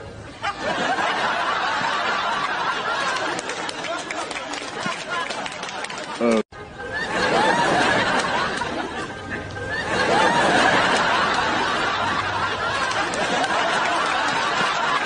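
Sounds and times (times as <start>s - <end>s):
people laughing: 0.3s - 15.0s.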